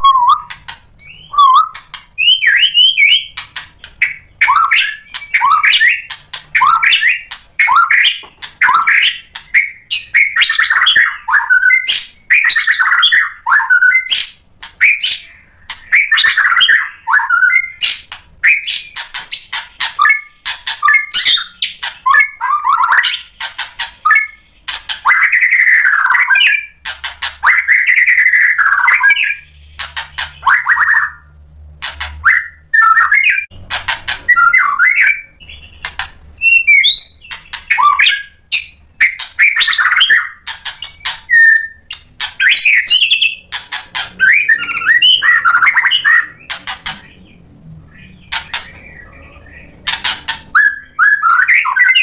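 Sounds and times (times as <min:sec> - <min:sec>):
bird singing whistles and ticks: 0:00.0 - 0:31.3, 0:32.2 - 0:33.5, 0:34.3 - 0:47.2.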